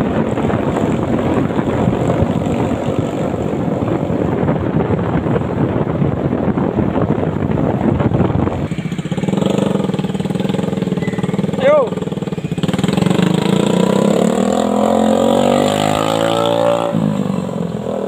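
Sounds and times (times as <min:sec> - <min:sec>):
vehicle engine and tyre noise: 0:00.0 - 0:18.0
wind rushing over microphone: 0:00.0 - 0:18.0.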